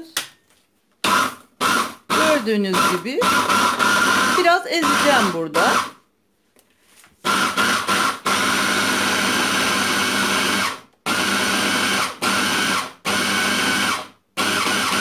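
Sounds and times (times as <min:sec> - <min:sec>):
hand blender chopping frozen fruit: 0:01.0 - 0:05.9, 0:07.2 - 0:15.0.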